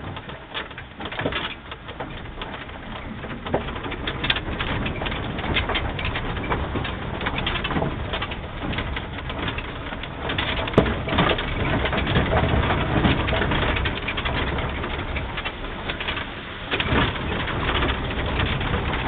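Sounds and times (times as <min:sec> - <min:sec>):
knocks and rattles: 0:00.0 - 0:19.0
tyres on rough ground: 0:00.0 - 0:19.0.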